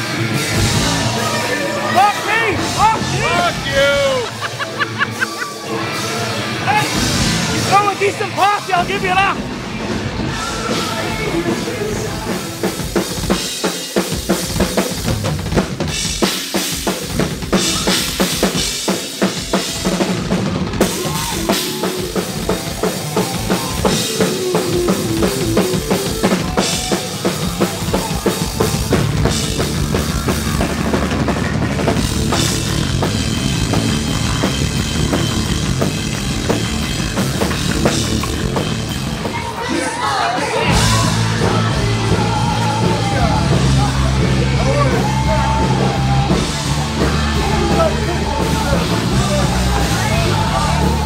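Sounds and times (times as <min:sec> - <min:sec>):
drum kit pounding: 0:00.0 - 0:05.4, 0:06.0 - 0:39.6, 0:40.6 - 0:51.0
live rock band playing: 0:00.0 - 0:51.0.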